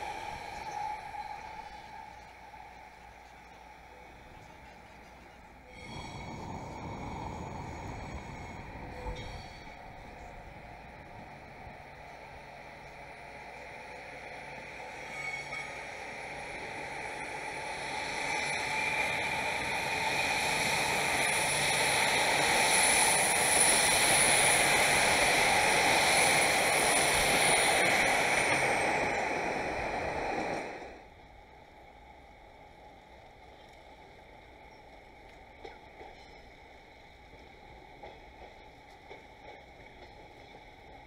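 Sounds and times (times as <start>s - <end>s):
train wheels on rails: 0.0s - 41.0s.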